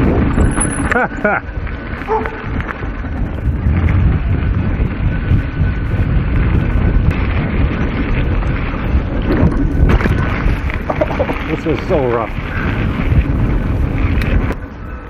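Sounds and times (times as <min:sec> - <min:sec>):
bike rattling: 0:00.0 - 0:15.0
bike tyres rumbling on dirt: 0:00.0 - 0:15.0
wind buffeting microphone: 0:00.0 - 0:15.0.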